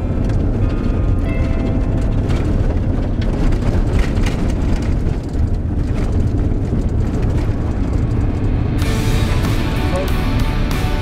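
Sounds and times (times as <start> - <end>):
van engine and tyre rumble: 0.0 - 11.0.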